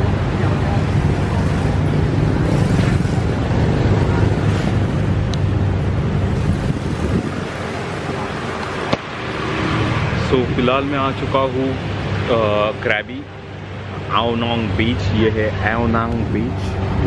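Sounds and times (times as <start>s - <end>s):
road traffic: 0.0s - 17.0s
vehicle engine rumble: 0.0s - 17.0s.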